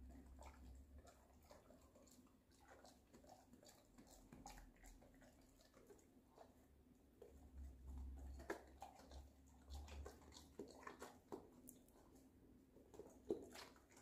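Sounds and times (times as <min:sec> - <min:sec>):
dog chewing vegetables: 0:00.0 - 0:14.0.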